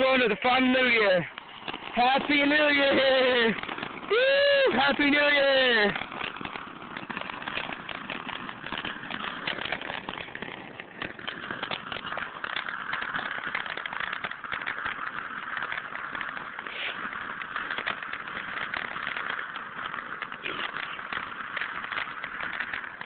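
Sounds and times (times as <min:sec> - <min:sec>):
ground firework hissing and crackling: 0:00.0 - 0:23.0.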